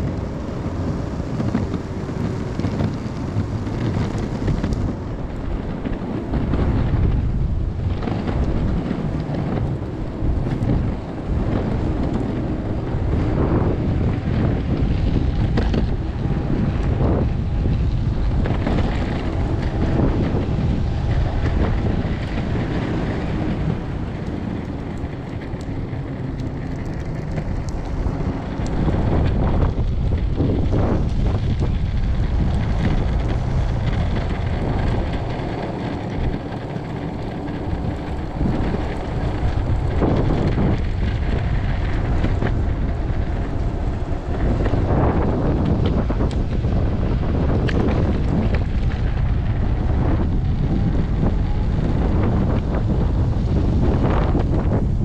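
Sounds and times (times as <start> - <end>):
electric skateboard rolling on pavement: 0.0 - 55.0
wind buffeting microphone: 0.0 - 55.0.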